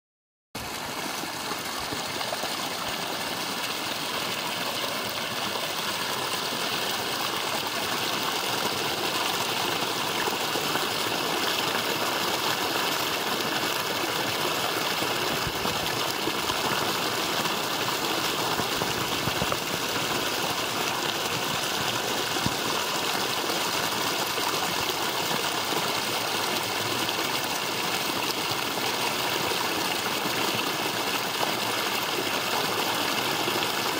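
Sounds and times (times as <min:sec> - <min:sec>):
creek water rushing and splashing: 0:00.6 - 0:33.9.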